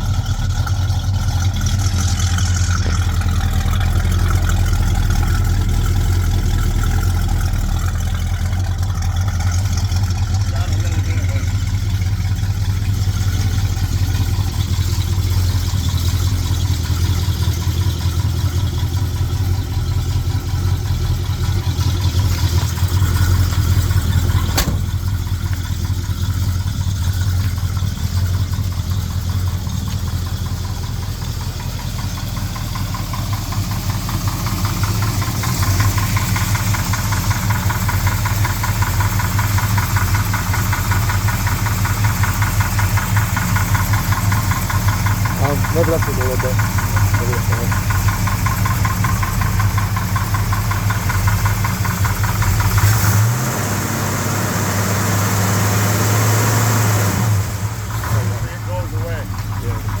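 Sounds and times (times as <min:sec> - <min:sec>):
engine idling: 0:00.0 - 1:00.0.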